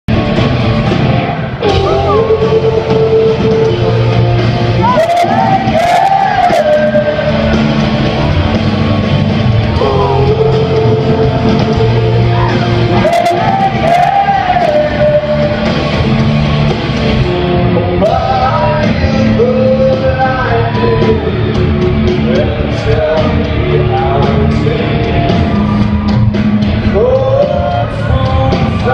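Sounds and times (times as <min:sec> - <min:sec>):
rock band playing: 0:00.1 - 0:28.9
lead vocal singing: 0:01.6 - 0:08.3, 0:09.6 - 0:16.0, 0:17.6 - 0:26.0, 0:26.7 - 0:28.9.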